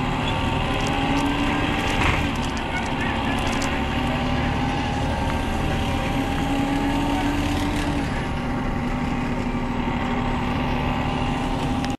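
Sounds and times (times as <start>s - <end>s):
bus engine drone: 0.0s - 11.9s
road noise: 0.0s - 11.9s.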